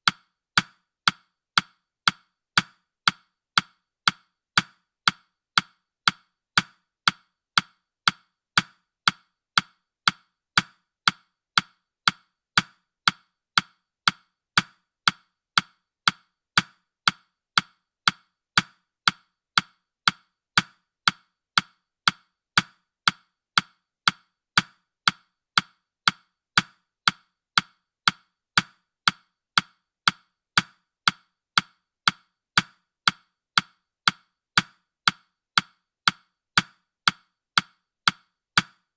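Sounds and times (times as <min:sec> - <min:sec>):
clock-like timer ticking: 0:00.0 - 0:38.9.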